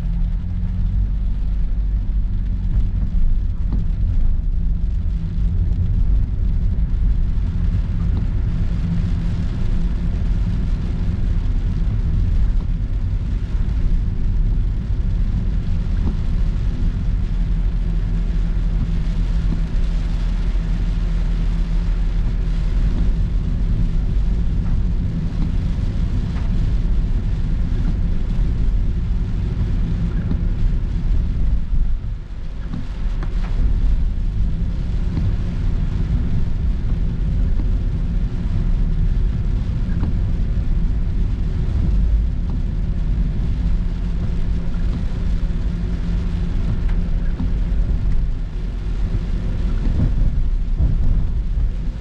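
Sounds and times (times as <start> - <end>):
car engine rumble from inside: 0.0 - 52.0
tyres hissing on wet road: 0.0 - 52.0.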